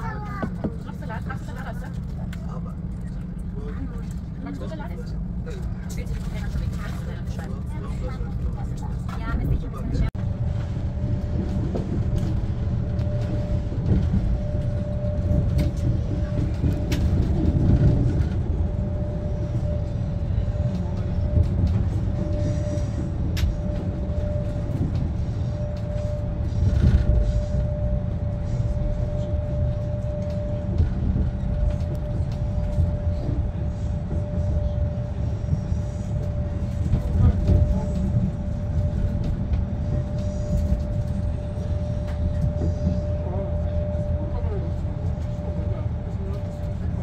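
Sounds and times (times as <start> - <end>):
train wheels rumbling on track: 0.0 - 47.0.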